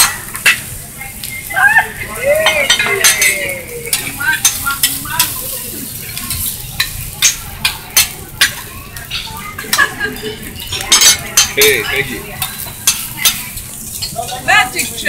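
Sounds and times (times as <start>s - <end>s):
metal spatula clacking on griddle: 0.0s - 1.4s, 2.4s - 14.9s
rice sizzling on a griddle: 0.0s - 15.0s.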